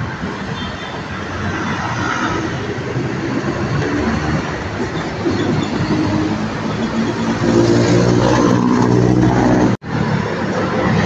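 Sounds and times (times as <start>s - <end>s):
heavy diesel trucks passing: 0.0s - 11.0s
tyre and road noise: 0.0s - 11.0s.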